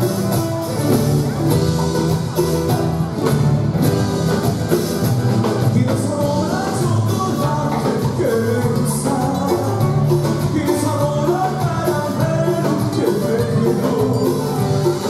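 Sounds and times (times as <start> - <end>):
folk dance music with singing: 0.0 - 15.0.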